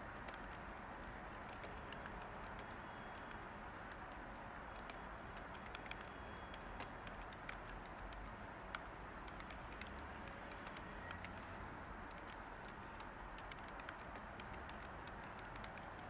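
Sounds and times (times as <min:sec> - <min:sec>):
white noise hiss: 0:00.0 - 0:16.0
typing on computer keyboard: 0:00.1 - 0:16.0.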